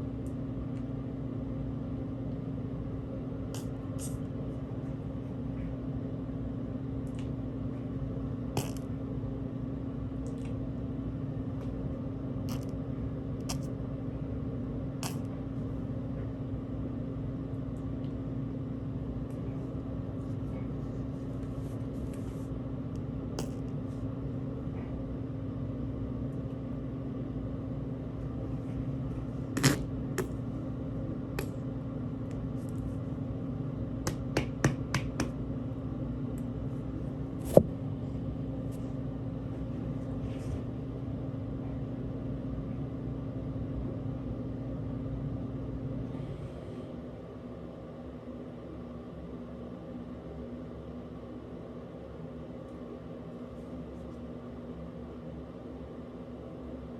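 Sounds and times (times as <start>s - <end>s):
low machine hum: 0.0s - 56.9s.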